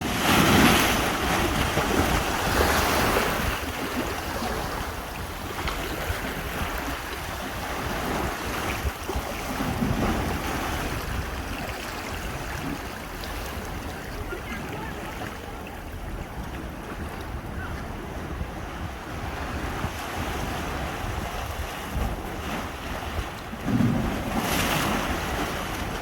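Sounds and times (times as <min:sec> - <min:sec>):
ocean waves crashing on rocks: 0:00.0 - 0:26.0
wind buffeting microphone: 0:00.0 - 0:26.0.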